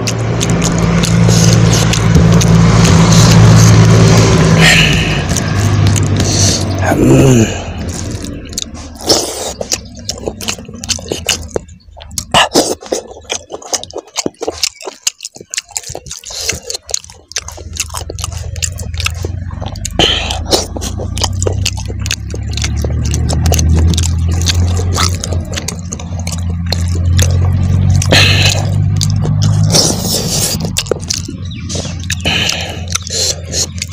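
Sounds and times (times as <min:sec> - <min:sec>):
steady low hum: 0:00.0 - 0:14.4, 0:15.4 - 0:33.9
fingers squishing rice: 0:00.0 - 0:33.9
wet chewing and lip smacks: 0:00.0 - 0:33.9.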